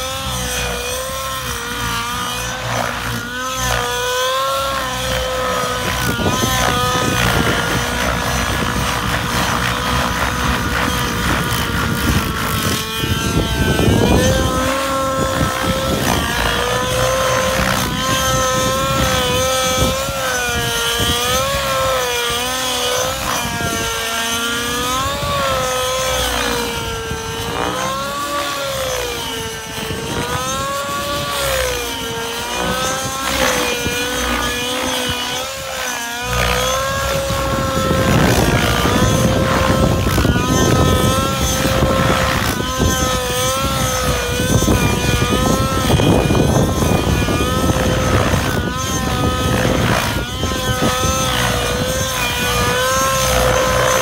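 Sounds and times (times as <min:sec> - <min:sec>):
rc helicopter engine whine: 0:00.0 - 0:54.0.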